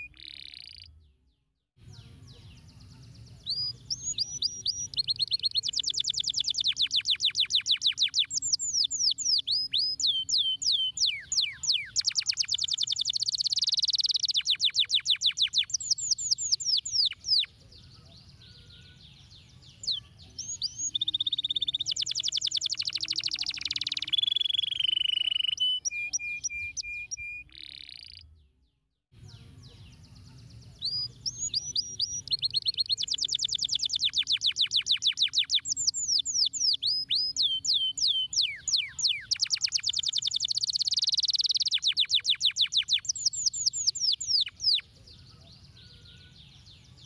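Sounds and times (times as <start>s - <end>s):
canary singing trills: 0.0s - 1.0s, 1.8s - 28.4s, 29.2s - 47.0s.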